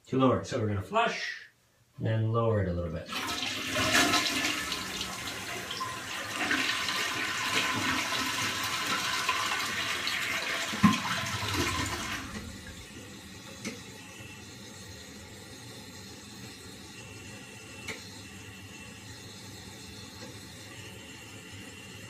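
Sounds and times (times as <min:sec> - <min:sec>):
toilet flushing: 0:03.1 - 0:22.0.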